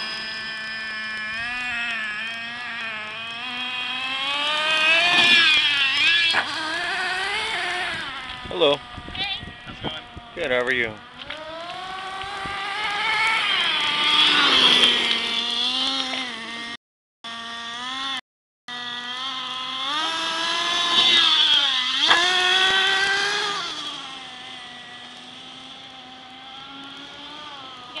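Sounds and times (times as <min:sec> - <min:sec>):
rc truck engine revving: 0:00.0 - 0:28.0.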